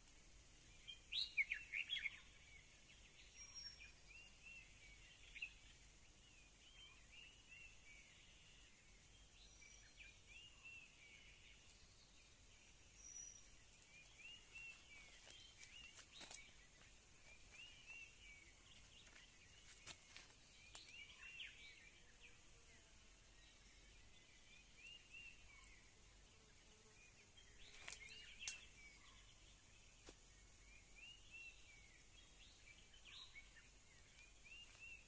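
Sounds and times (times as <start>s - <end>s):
faint bird chirps: 0.0s - 35.0s.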